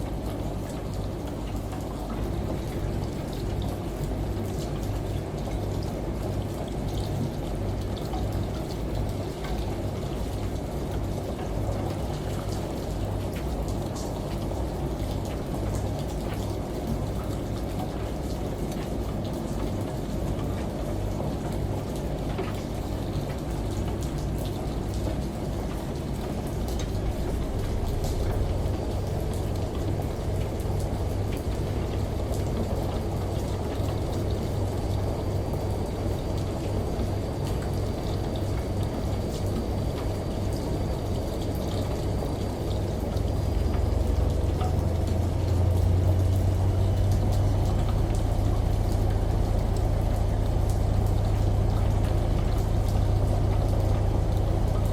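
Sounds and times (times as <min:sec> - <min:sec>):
rain with drop ticks: 0:00.0 - 0:54.9
washing machine humming: 0:00.0 - 0:54.9.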